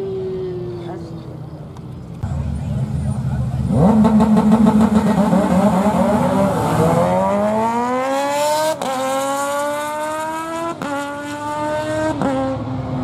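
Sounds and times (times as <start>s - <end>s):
engines accelerating hard: 2.2s - 13.0s.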